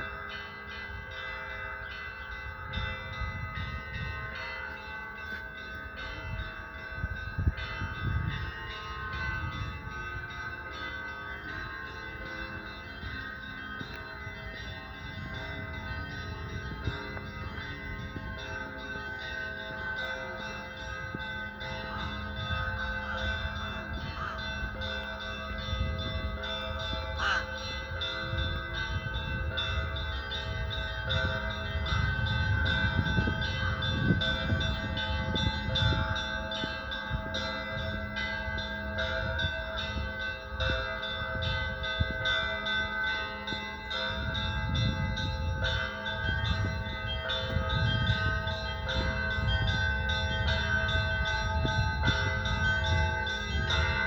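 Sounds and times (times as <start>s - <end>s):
large bells ringing: 0.0s - 54.0s
small bells struck quickly: 0.0s - 54.0s.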